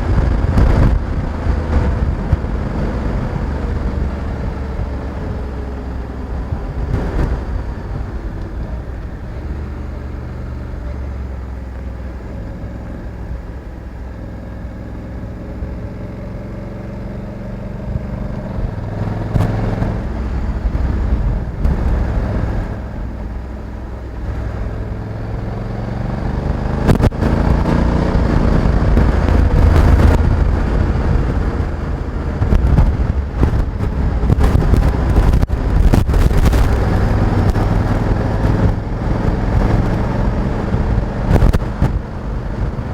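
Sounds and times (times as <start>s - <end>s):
crackles of noise: 0.0s - 15.4s, 17.7s - 25.7s, 26.4s - 42.9s
motorcycle engine revving: 0.0s - 42.9s.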